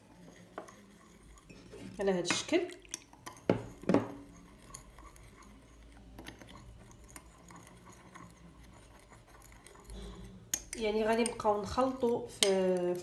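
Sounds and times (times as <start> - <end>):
spoon scraping glass bowl: 0.0 - 13.0.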